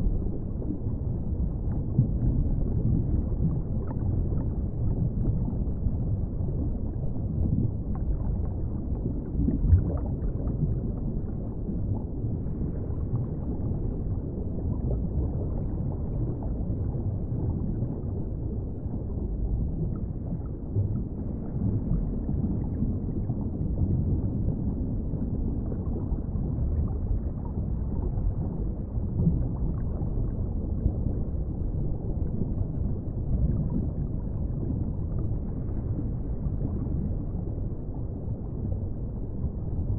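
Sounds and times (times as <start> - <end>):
underwater rumbling water wash: 0.0 - 39.9.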